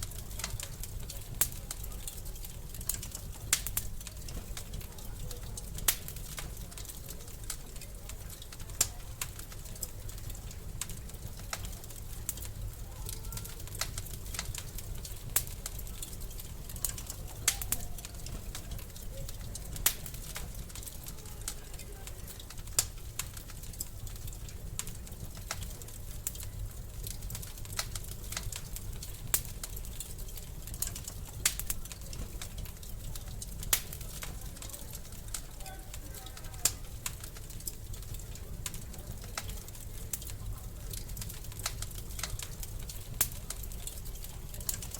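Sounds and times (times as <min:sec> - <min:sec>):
low rumble of burning: 0:00.0 - 0:44.9
wood fire crackling: 0:00.0 - 0:44.9.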